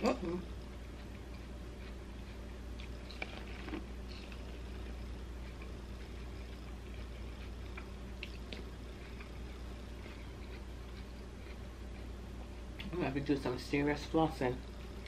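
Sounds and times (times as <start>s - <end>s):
chewing corn on the cob: 0.0s - 13.0s
steady low hum: 0.0s - 15.0s.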